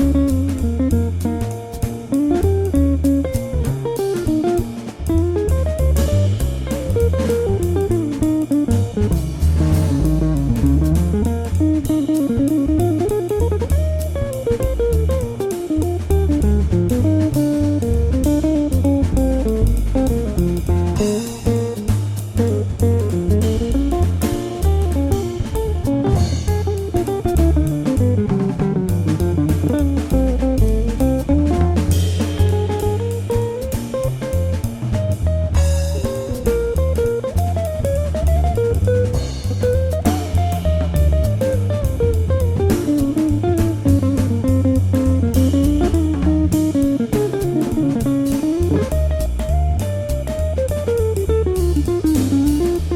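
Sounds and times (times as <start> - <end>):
bass: 0.0 - 52.9
drum kit beat: 0.0 - 52.9
plucked guitar melody: 0.0 - 52.9.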